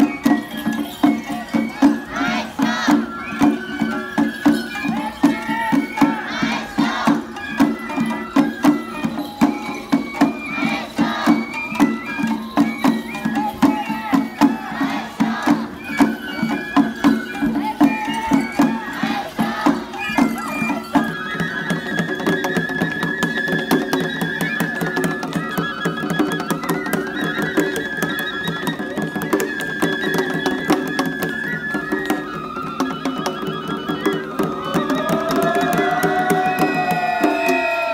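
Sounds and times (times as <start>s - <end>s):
festival drum beat: 0.0s - 37.9s.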